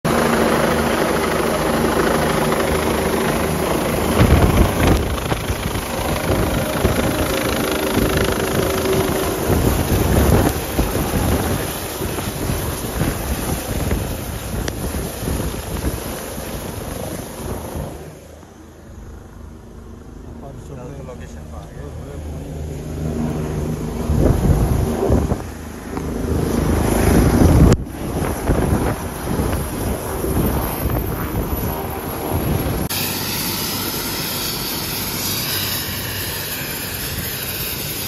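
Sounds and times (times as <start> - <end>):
helicopter rotor and turbine din: 0.0 - 38.0
rotor downwash buffeting microphone: 0.1 - 33.1.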